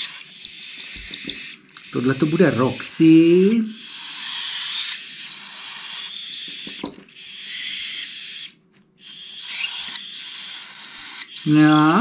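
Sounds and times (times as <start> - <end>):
chicks raspy begging calls: 0.0 - 12.0.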